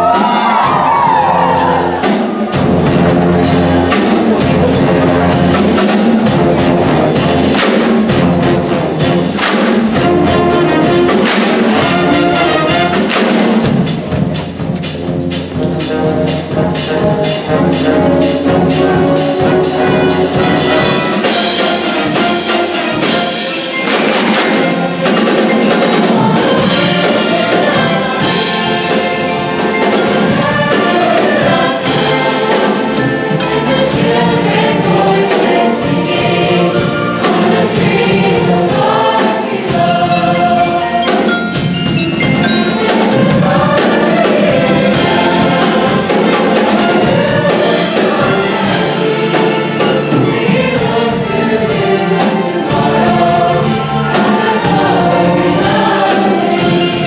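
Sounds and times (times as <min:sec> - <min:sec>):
mallet percussion: 0:00.0 - 0:57.0
orchestra and band playing: 0:00.0 - 0:57.0.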